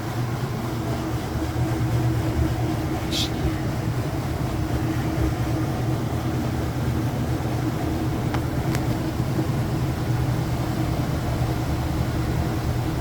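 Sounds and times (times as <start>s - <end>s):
washing machine drum spinning: 0.0s - 13.0s.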